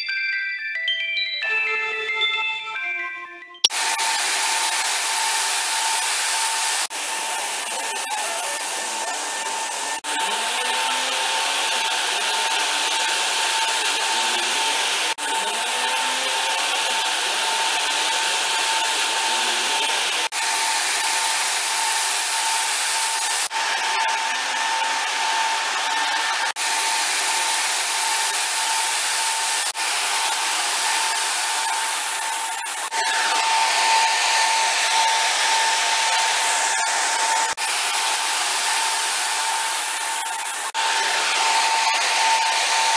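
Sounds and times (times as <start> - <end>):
dryer fans running with whine: 3.7 - 42.9.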